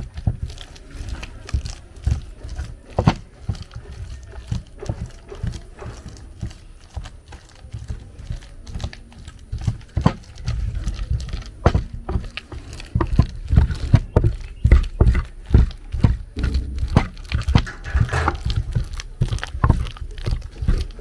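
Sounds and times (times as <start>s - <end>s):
dull knocks of mashing: 0.0s - 21.0s.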